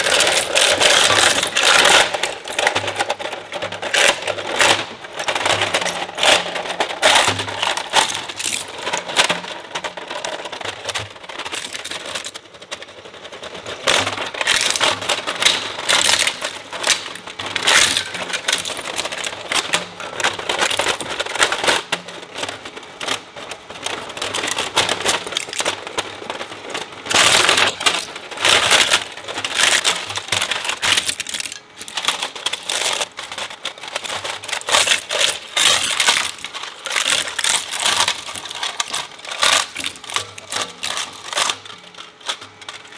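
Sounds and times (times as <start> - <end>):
plastic cracking and crunching: 0.0 - 42.9.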